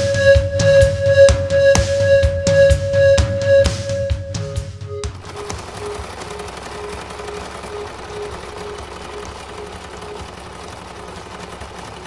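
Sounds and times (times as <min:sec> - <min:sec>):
machinery clattering: 0:00.0 - 0:12.0.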